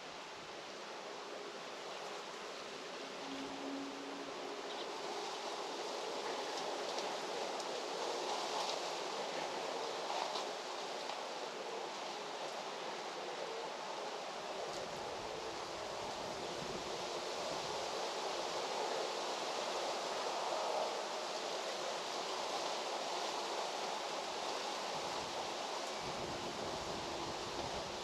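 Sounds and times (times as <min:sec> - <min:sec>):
rural outdoor rushing noise: 0:00.0 - 0:28.0.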